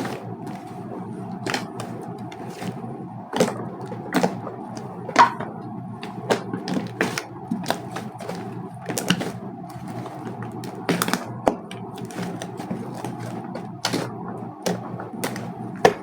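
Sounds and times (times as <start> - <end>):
slime popping and crackling: 0.0 - 16.0.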